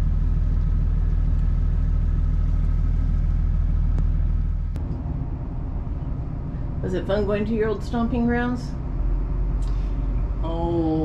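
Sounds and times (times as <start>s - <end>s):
diesel engine droning: 0.0s - 11.0s
low hum: 0.0s - 11.0s.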